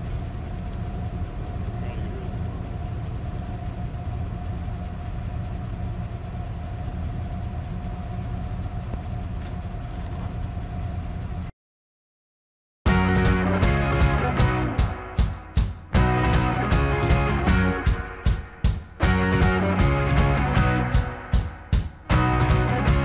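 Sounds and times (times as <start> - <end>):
car engine idling: 0.0 - 11.4, 12.9 - 23.0.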